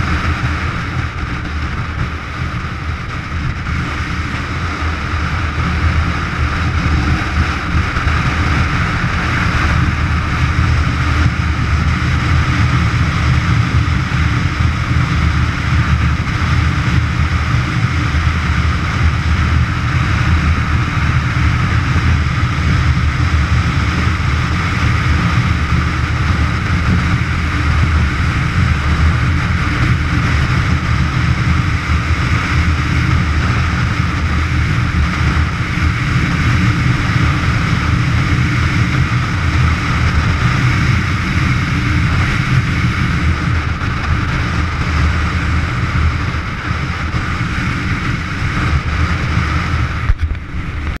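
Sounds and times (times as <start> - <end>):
motorcycle engine and tyre drone: 0.0 - 51.0
wind rush over microphone: 0.0 - 51.0.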